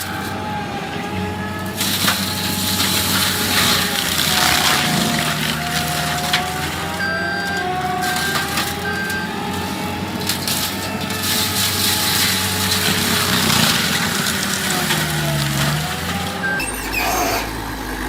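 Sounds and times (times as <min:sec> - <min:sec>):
heavy machine engine running: 0:00.0 - 0:18.0
wood crushing and cracking: 0:00.0 - 0:18.0.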